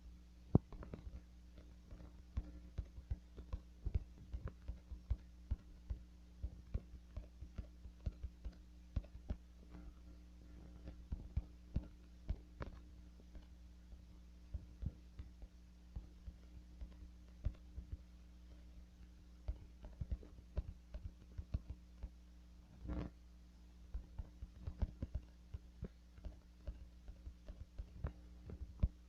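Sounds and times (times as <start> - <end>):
faint clicks and taps: 0.0 - 23.2, 23.8 - 29.0
low electrical hum: 0.0 - 29.0.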